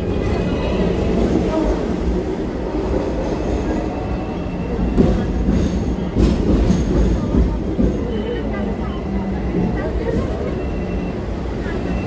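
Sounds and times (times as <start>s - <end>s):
tram wheel clack: 0.0s - 12.0s
tram wheels rumbling on rails: 0.0s - 12.0s.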